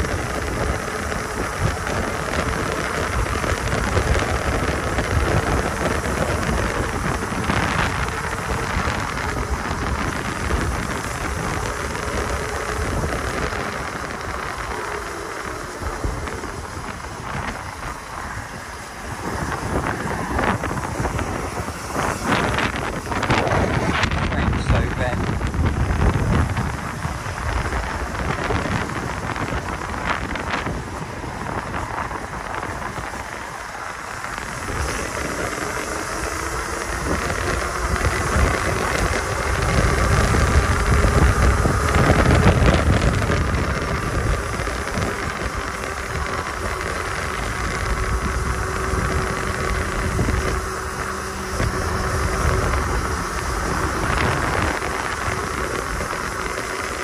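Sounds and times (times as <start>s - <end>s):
faint motor whine: 0.0s - 57.0s
wind rushing over microphone: 0.0s - 57.0s.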